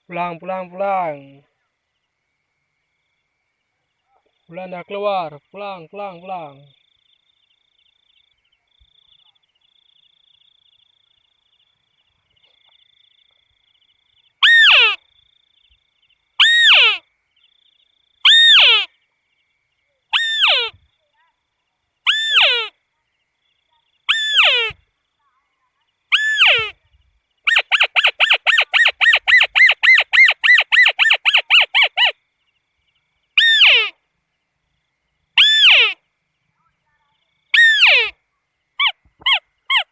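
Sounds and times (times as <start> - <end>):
faint high insect buzz: 0.0 - 39.9.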